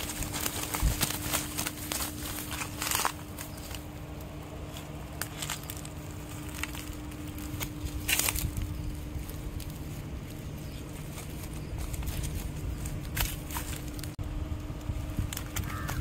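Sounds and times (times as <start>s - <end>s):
dry leaves rustling and crackling: 0.0s - 16.0s
faint steady hum: 0.0s - 16.0s.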